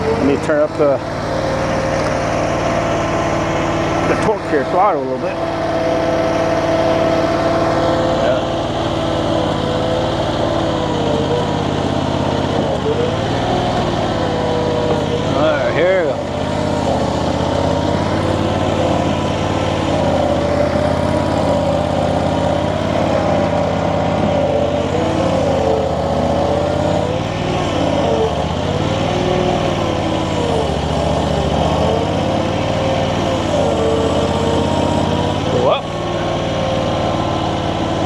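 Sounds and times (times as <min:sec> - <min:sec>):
hydraulic whine: 0:00.0 - 0:38.0
skid steer engine droning: 0:00.0 - 0:38.0.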